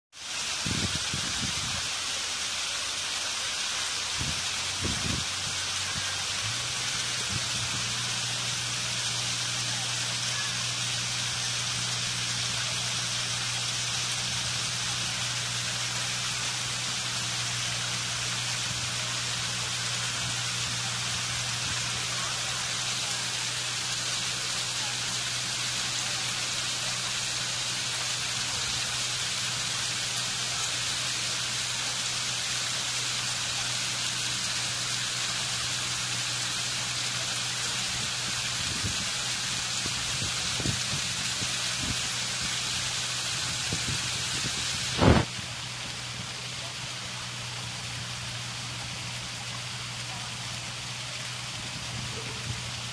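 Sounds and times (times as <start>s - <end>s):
waterfall splashing onto stones: 0.1s - 52.9s.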